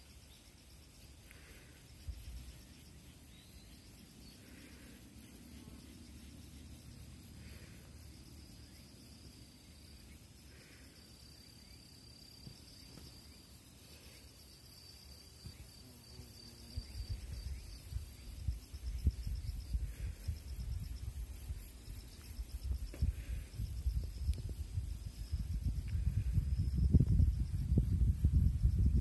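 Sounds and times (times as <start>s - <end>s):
insects trilling and chirping: 0.0s - 29.0s.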